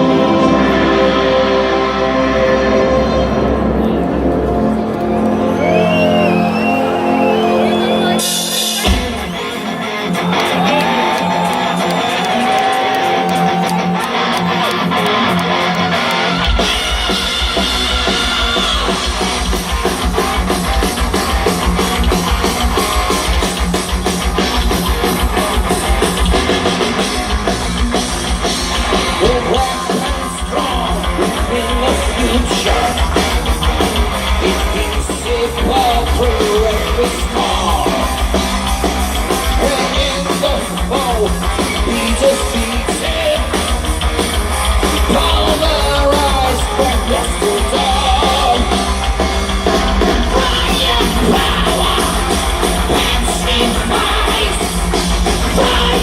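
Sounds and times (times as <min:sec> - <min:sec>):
bass guitar: 0:00.0 - 0:56.0
drums: 0:00.0 - 0:56.0
electric guitars: 0:00.0 - 0:56.0.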